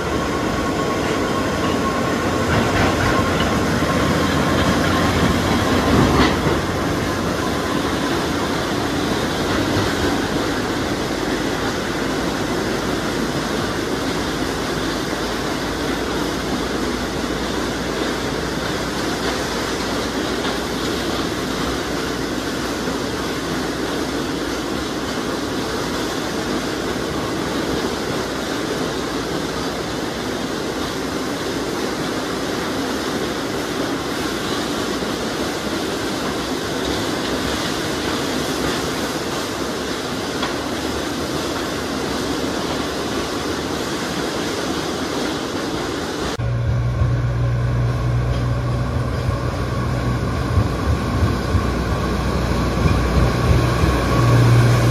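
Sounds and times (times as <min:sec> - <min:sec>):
diesel locomotive drone: 0:00.0 - 0:54.9
steel wheels rolling on rails: 0:00.0 - 0:54.9.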